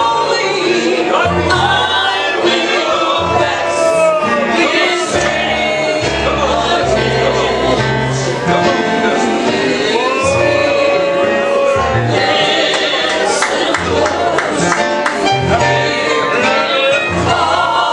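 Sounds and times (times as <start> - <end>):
voices singing gospel: 0.0 - 17.9
instrumental backing with bass: 0.1 - 17.9.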